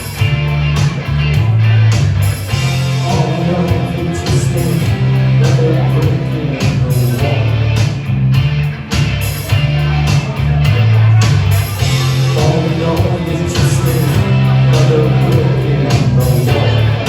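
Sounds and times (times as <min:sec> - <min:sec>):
electric guitar playing: 0:00.0 - 0:17.0
steady bass line: 0:00.0 - 0:17.0.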